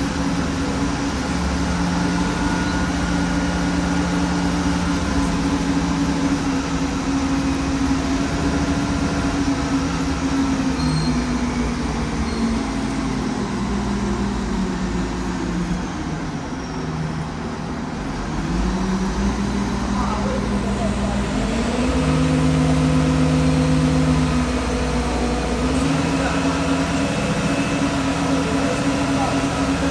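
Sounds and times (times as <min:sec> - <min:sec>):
heavy machine engine running: 0:00.0 - 0:29.9.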